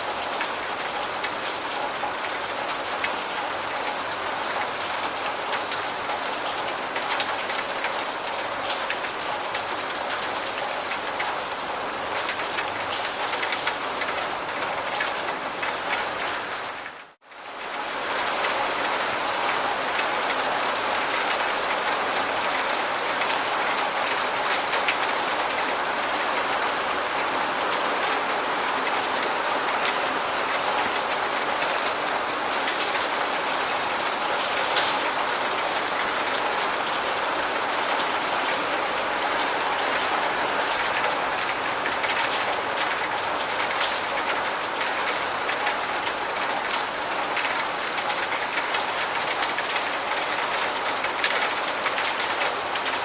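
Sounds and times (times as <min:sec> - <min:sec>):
steady dense rain: 0:00.0 - 0:53.0.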